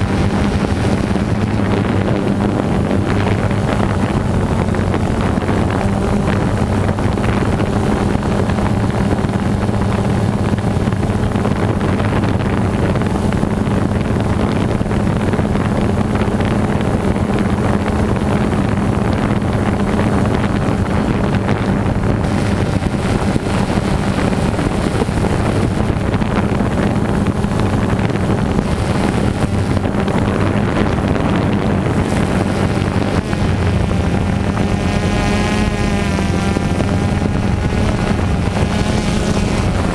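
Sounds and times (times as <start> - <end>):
drone motors humming: 0.0 - 39.9
wind rushing over microphone: 0.0 - 39.9.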